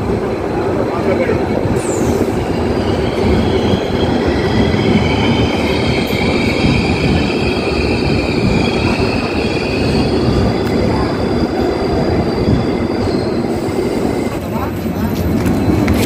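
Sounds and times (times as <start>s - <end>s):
train coaches rumbling: 0.0s - 16.0s
steel wheels squealing on rails: 0.8s - 16.0s.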